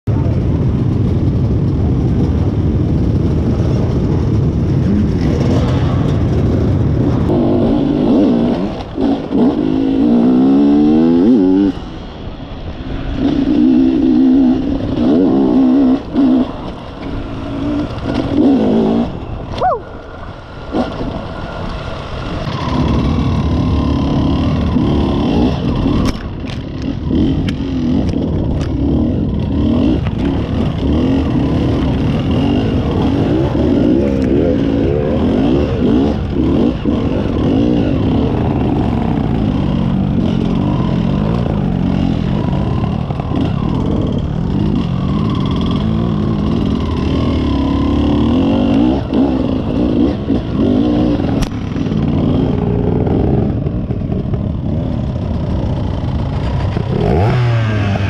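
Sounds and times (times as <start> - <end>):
many dirt-bike engines running: 0.0 - 58.0
motorcycle engine revving: 0.1 - 58.0.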